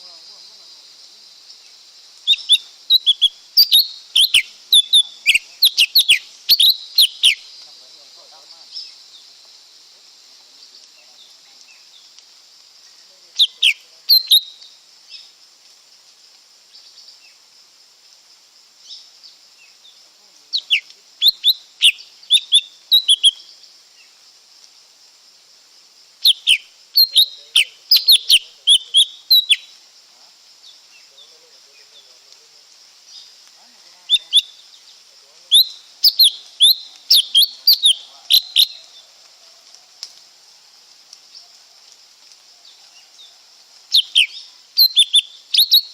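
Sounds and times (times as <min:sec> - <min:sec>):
steady high hiss: 0:00.0 - 0:45.9.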